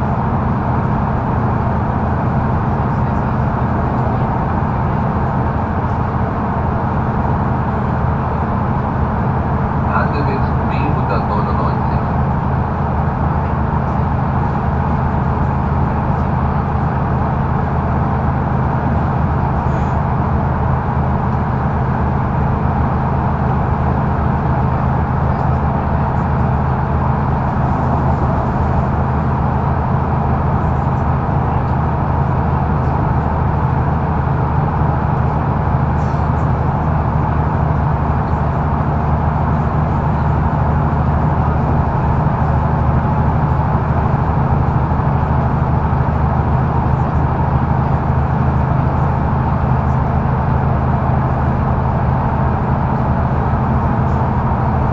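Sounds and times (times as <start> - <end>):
diesel engine drone: 0.0 - 54.9
road and tyre noise: 0.0 - 54.9.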